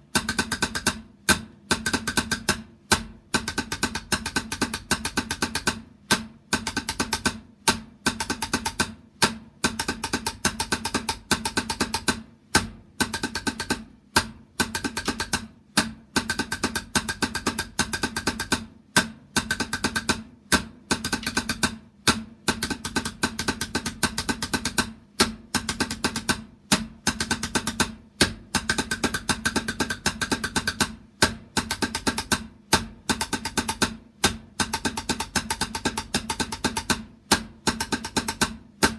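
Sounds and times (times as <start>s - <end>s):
drums played in fast runs: 0.0s - 38.9s.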